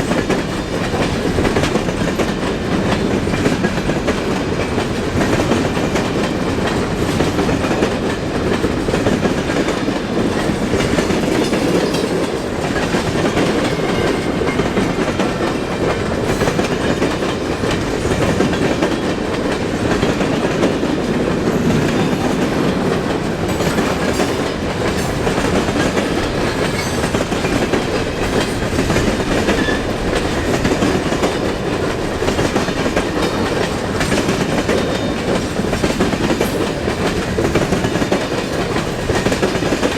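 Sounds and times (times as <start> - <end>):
freight train cars rolling: 0.0 - 39.9
steel wheels on rails: 0.0 - 39.9.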